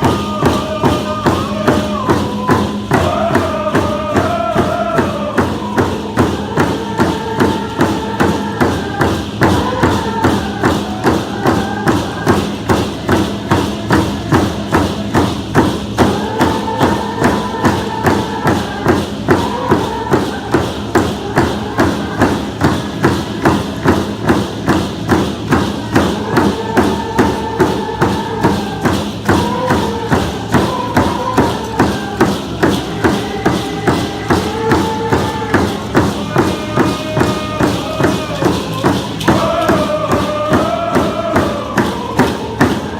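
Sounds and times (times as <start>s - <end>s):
group of voices singing: 0.0s - 42.9s
hand drum beat: 0.0s - 42.9s.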